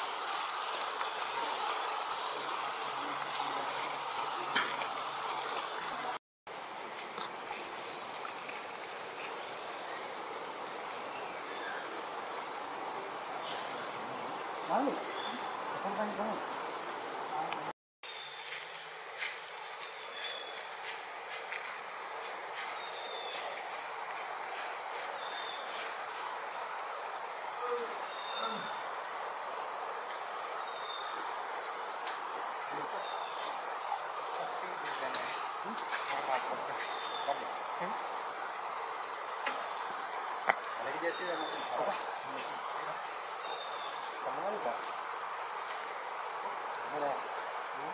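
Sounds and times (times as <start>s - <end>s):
faint insect chirps: 0.0s - 47.9s
insect chorus drone: 0.0s - 47.9s.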